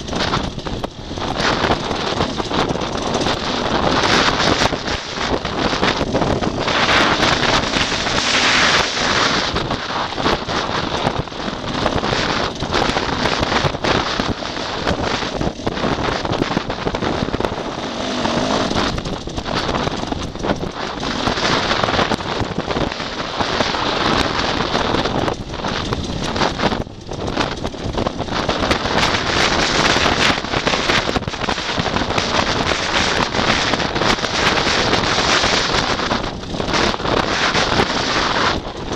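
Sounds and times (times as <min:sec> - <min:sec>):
dirt bike engine: 0:00.0 - 0:38.9
wind buffeting microphone: 0:00.0 - 0:38.9.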